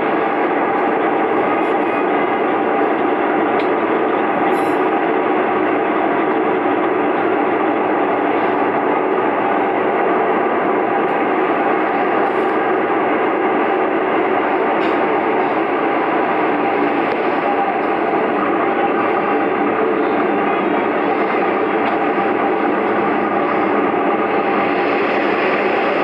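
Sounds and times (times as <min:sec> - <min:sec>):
train wheels rolling on rail: 0:00.0 - 0:26.0.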